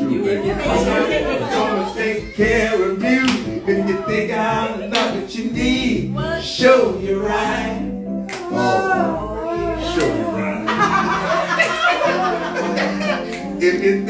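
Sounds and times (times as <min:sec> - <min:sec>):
electric keyboard: 0:00.0 - 0:14.0
people singing r and b: 0:00.0 - 0:14.0.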